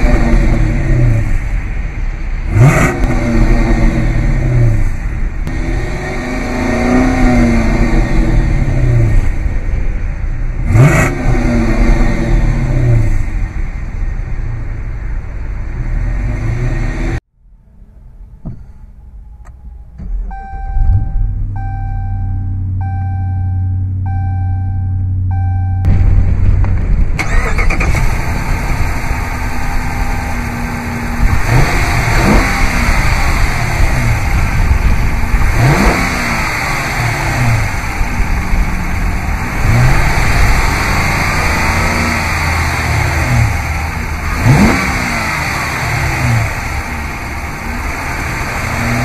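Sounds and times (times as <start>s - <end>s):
car engine revving: 0.0s - 49.0s
car engine starting and idling: 0.0s - 49.0s.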